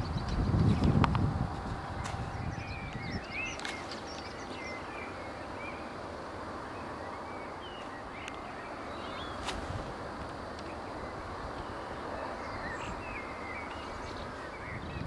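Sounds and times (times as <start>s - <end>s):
outdoor background hiss: 0.0s - 15.0s
small birds chirping: 0.0s - 15.0s.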